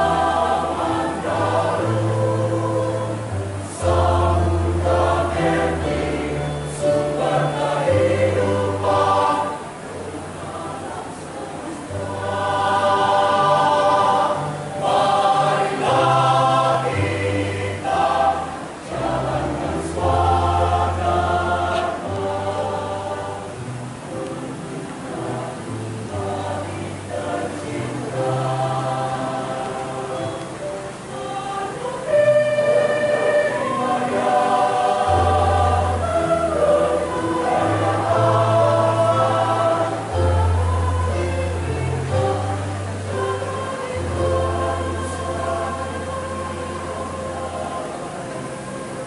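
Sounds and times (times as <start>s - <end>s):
choir singing in parts: 0.0s - 49.0s.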